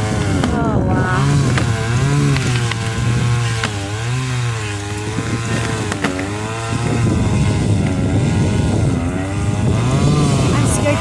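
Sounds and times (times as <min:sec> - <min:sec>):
motor running with wavering pitch: 0:00.0 - 0:11.0.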